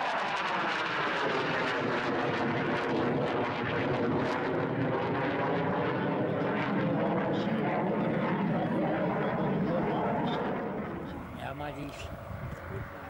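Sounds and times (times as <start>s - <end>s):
jet flying overhead: 0.0s - 13.0s.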